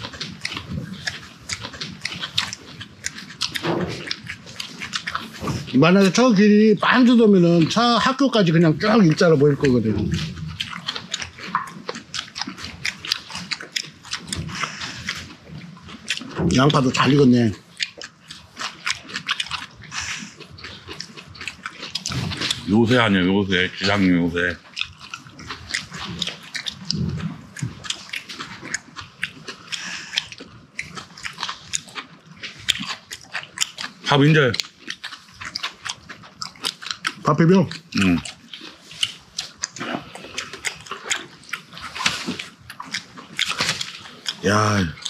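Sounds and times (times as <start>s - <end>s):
wet mouth clicks and smacks: 0.0s - 6.2s, 9.1s - 22.7s, 23.8s - 45.0s
person chewing: 0.0s - 45.0s.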